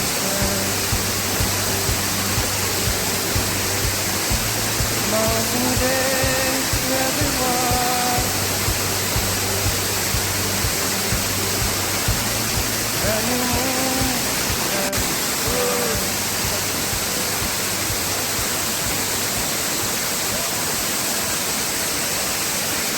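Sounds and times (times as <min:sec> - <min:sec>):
music with low beat: 0:00.0 - 0:20.0
waterfall roaring: 0:00.0 - 0:22.9.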